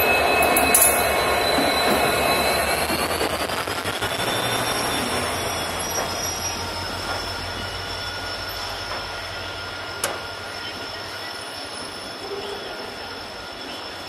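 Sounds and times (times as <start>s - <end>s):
high-pitched wheel squeal: 0.0s - 14.0s
locomotive engine rumble: 0.0s - 14.0s
rumble of train coaches: 0.0s - 14.0s.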